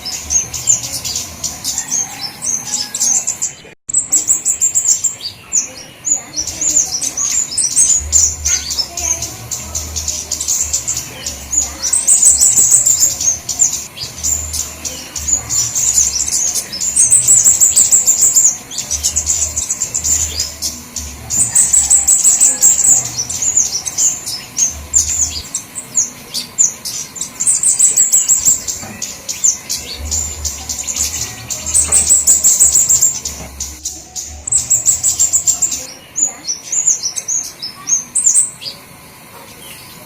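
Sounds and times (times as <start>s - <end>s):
birds twittering: 0.0s - 40.0s.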